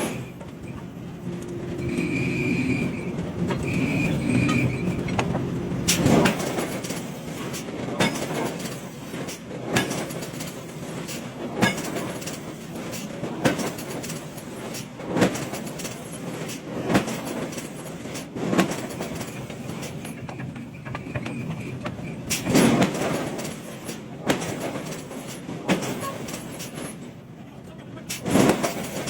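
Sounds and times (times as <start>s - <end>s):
machine and shop noise: 0.0s - 27.2s, 28.1s - 29.0s.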